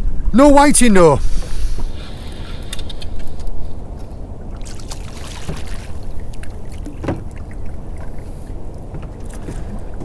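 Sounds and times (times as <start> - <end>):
water lapping against boat hull: 1.3 - 10.0.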